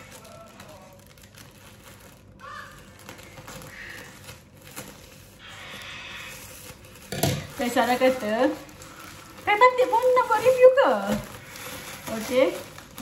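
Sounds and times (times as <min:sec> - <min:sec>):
plastic wrapping rustling: 0:00.0 - 0:13.0.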